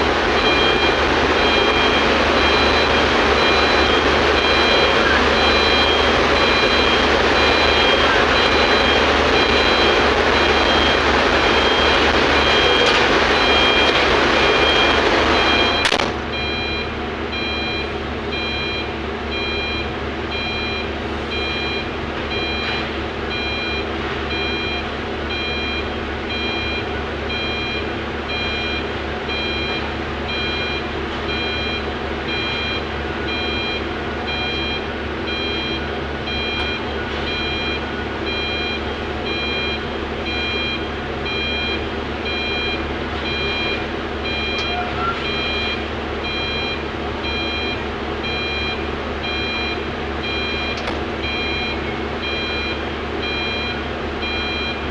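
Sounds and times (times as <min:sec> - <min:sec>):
diesel engine running: 0:00.0 - 0:54.9
reversing alarm beeps: 0:00.2 - 0:54.9.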